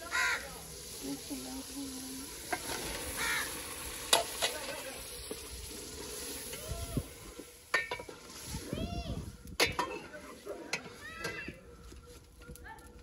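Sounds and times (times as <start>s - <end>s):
food sizzling: 0.0s - 11.4s.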